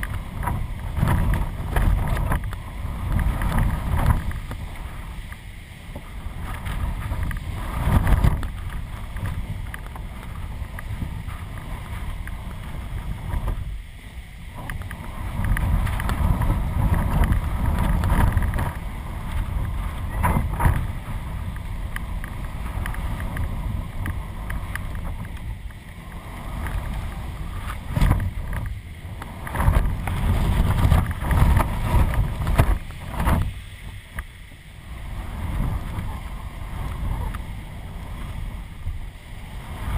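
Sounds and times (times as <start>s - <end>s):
gusty wind buffeting microphone: 0.0s - 39.9s.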